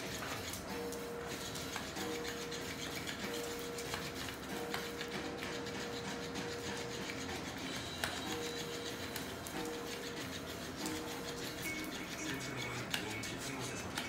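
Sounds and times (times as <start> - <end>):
small motor whine: 0.0 - 12.7.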